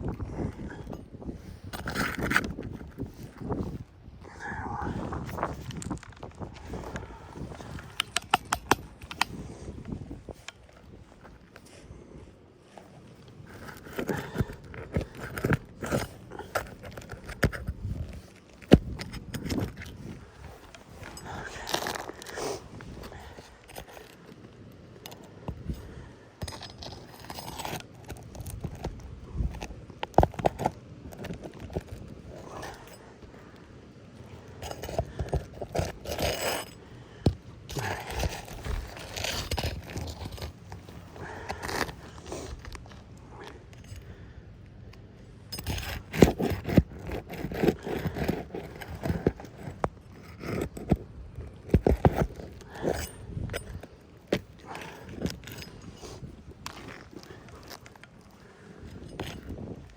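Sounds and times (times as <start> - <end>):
tools scraping under shingles: 0.0 - 59.9.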